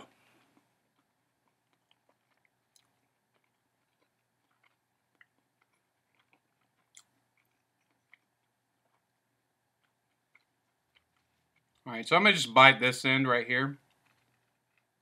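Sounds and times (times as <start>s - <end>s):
faint chewing: 0.0s - 11.9s, 13.8s - 15.0s.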